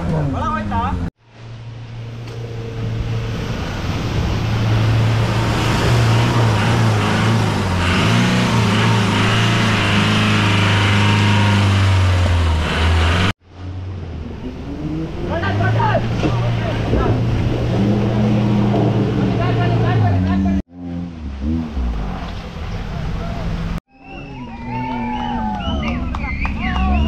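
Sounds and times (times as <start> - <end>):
jeep engine running at low revs: 0.0 - 27.0.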